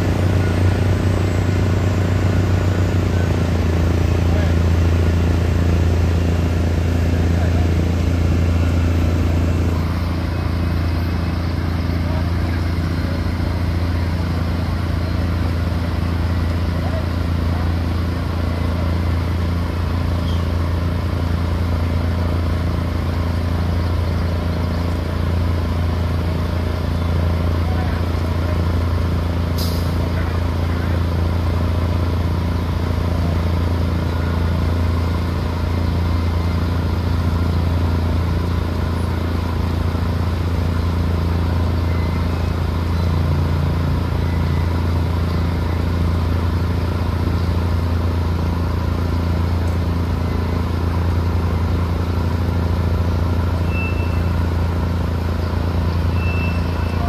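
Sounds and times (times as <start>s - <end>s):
large diesel engine running: 0.0s - 57.0s.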